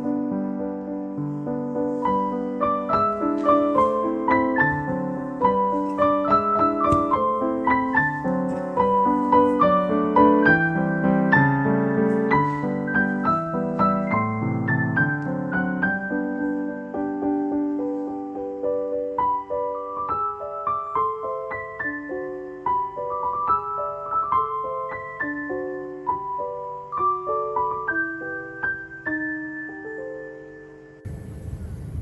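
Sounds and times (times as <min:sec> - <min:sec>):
gentle piano music: 0:00.0 - 0:31.4.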